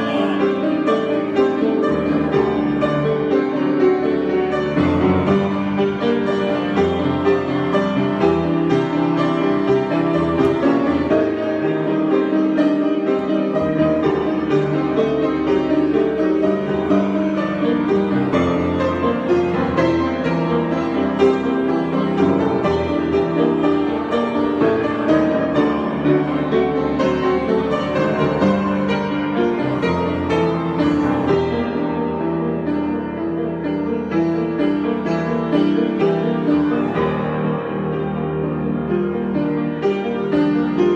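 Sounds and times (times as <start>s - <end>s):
solo piano improvisation: 0.0s - 40.9s.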